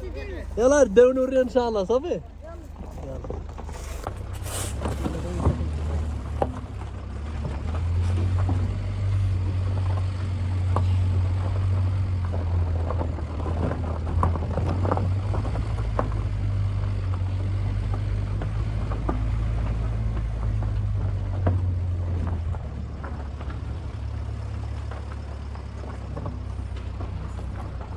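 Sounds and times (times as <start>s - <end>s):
vehicle engine drone: 0.0s - 27.9s.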